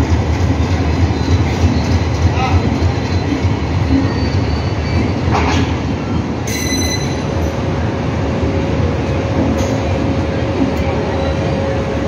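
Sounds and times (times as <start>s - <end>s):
low rumble of train wheels: 0.0s - 12.0s.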